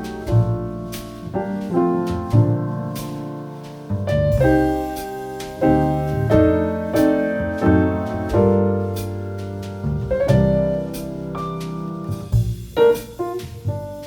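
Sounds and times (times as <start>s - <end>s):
soft piano melody: 0.0s - 14.0s.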